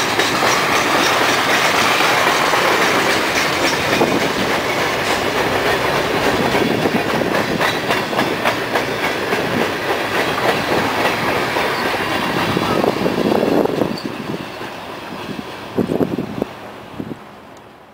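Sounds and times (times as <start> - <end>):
train wheels clattering on rails: 0.0 - 16.6.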